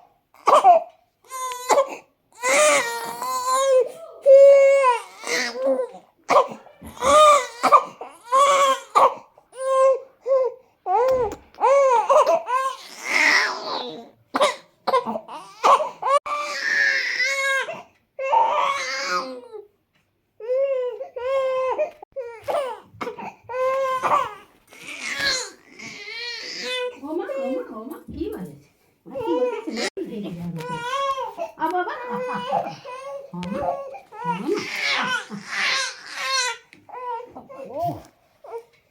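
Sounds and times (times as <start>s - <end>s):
infant crying: 0.4s - 19.7s, 20.4s - 27.7s, 29.1s - 30.0s, 30.6s - 38.7s.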